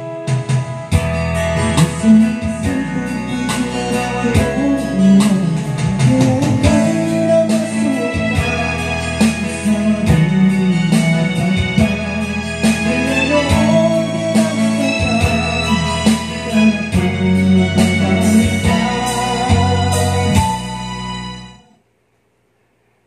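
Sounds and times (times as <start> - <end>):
guitar and keyboard ballad: 0.0 - 21.8.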